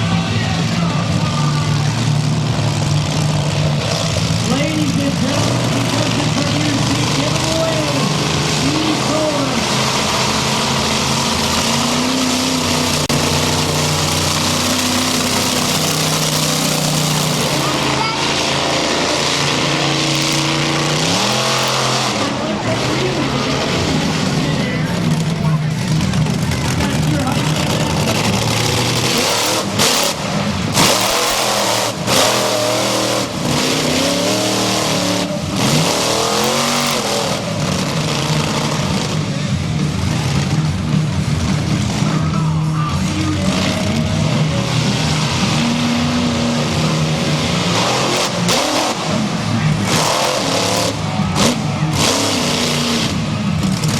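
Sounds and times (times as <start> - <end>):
monster truck engine running: 0.0 - 53.9.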